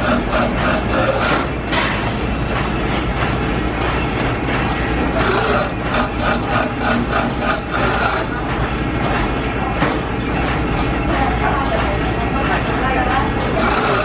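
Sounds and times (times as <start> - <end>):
factory machinery hum: 0.0 - 14.0.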